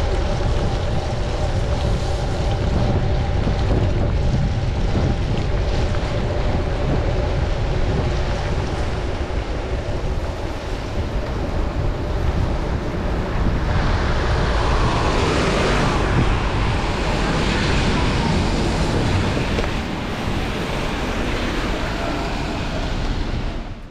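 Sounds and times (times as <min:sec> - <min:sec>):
passing traffic: 0:00.0 - 0:23.9
tyres hissing on wet road: 0:00.0 - 0:23.9
wind rumble on microphone: 0:00.0 - 0:23.9.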